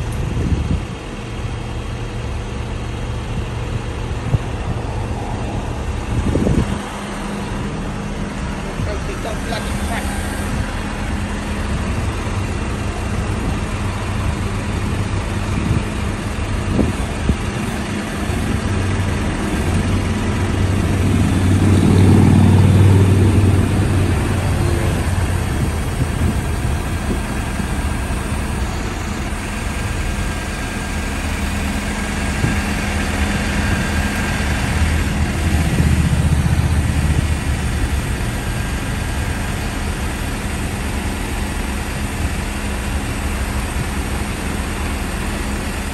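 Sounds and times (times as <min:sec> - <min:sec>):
truck engine idling: 0:00.0 - 0:45.9.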